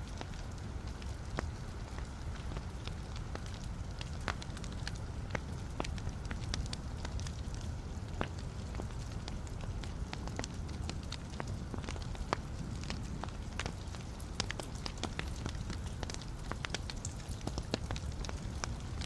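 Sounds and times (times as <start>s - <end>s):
burning logs crackling and popping: 0.0s - 19.0s
fire flames rumbling: 0.0s - 19.0s.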